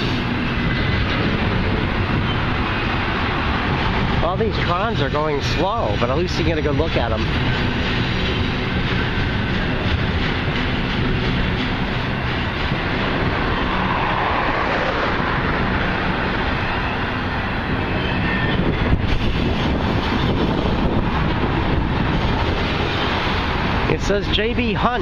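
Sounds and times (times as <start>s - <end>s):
train cars clattering: 0.0s - 25.0s
train wheels rumbling on rail: 0.0s - 25.0s.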